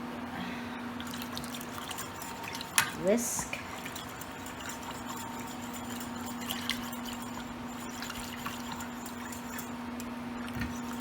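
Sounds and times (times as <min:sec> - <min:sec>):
steady low hum: 0:00.0 - 0:11.0
whisk clicking against pan: 0:01.0 - 0:11.0
whisk stirring sauce in saucepan: 0:01.0 - 0:11.0.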